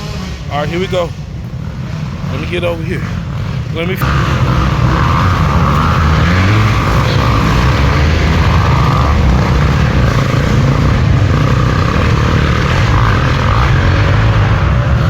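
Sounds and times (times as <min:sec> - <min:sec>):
dirt bike engines droning: 0:00.0 - 0:15.0
engine whine of passing bikes: 0:00.0 - 0:15.0.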